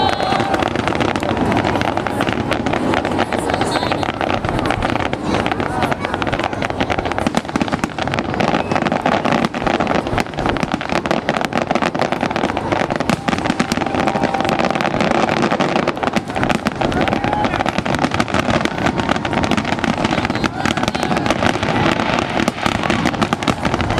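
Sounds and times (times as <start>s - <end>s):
fireworks crackling and popping: 0.0s - 23.9s.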